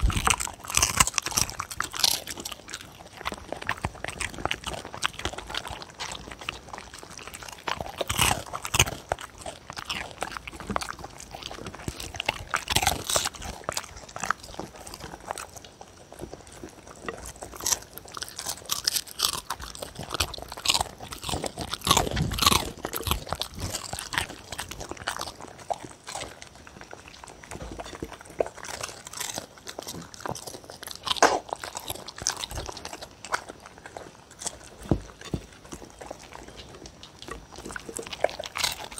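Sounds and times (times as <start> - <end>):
dogs crunching and chewing: 0.0 - 38.9.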